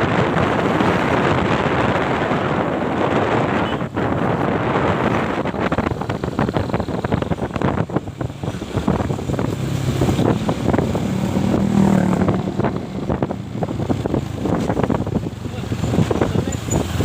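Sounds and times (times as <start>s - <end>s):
wind buffeting the microphone: 0.0s - 17.0s.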